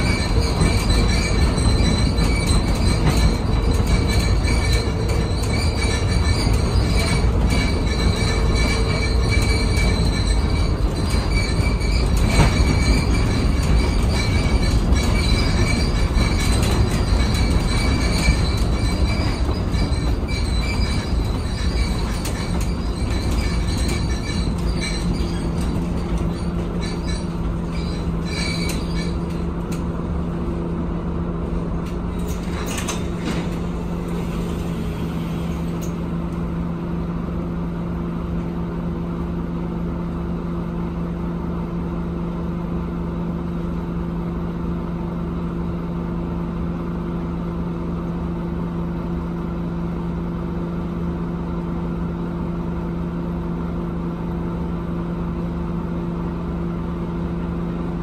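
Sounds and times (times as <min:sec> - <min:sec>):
bus road and drivetrain rumble: 0:00.0 - 0:58.0.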